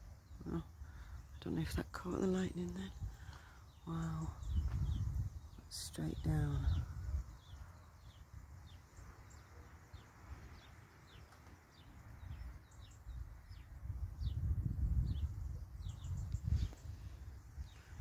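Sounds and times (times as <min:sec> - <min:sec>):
bird chirping: 0:00.0 - 0:18.0.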